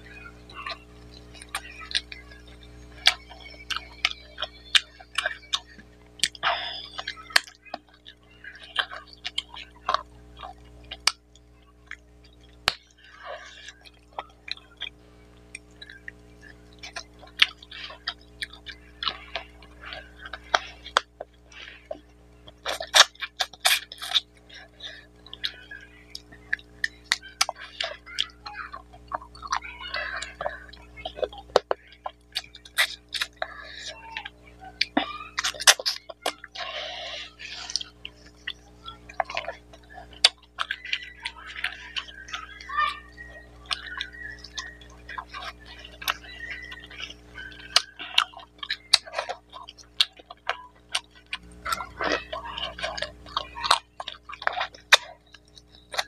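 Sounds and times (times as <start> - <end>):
person chewing and mouth smacks: 0.0 - 56.0.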